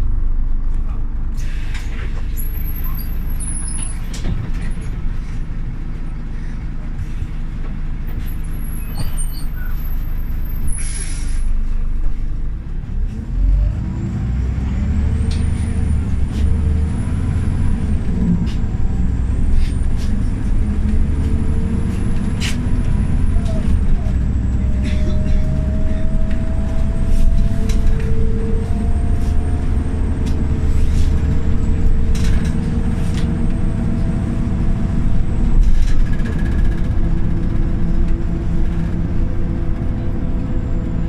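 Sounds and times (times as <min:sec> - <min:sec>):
bus diesel engine: 0:00.0 - 0:41.0.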